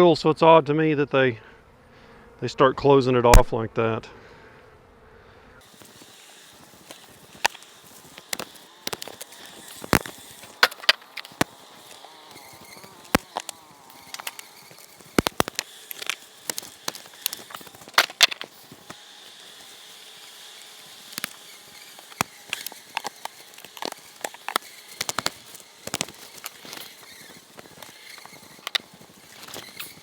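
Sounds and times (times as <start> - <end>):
bees buzzing: 4.2 - 30.0
clicks and knocks of wooden hive: 5.7 - 30.0.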